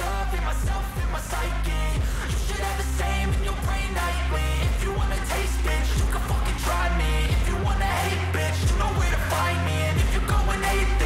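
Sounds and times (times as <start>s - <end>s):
hip-hop beat with sliding bass: 0.0s - 11.0s.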